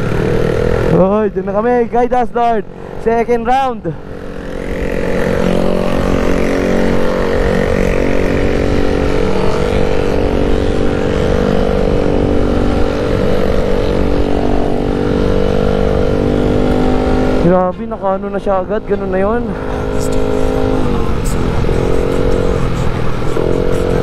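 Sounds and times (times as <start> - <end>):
scooter engine running: 3.9 - 17.5, 18.3 - 24.0.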